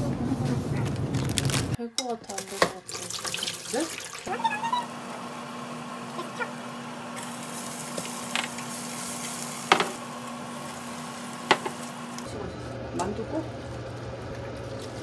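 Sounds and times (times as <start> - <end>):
food sizzling in oil: 2.4 - 15.0.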